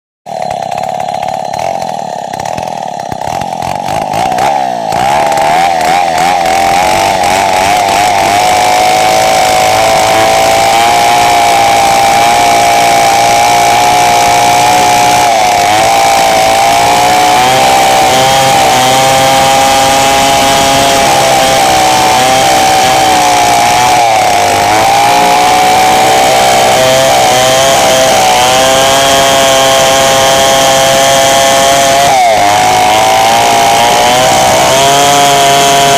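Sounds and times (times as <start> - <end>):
chainsaw cutting timber: 0.3 - 35.9.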